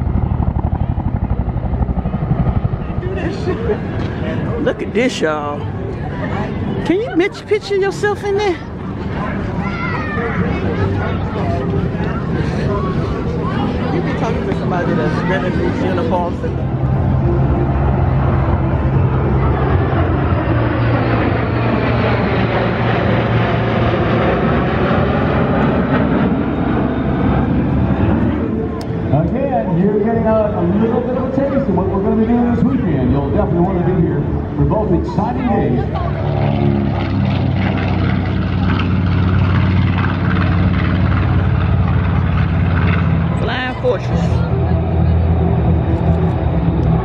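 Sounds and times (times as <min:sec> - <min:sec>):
aircraft engine noise: 0:00.0 - 0:47.0
low hum: 0:00.0 - 0:47.0
propeller plane droning overhead: 0:00.0 - 0:47.0.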